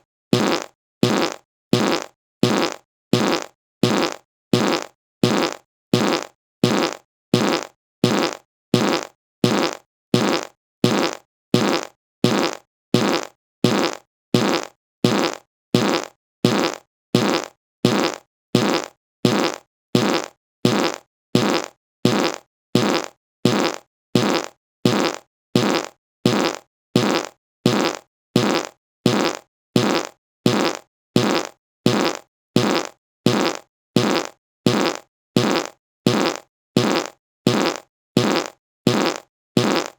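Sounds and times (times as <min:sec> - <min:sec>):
fart sound effect: 0:00.4 - 0:39.9.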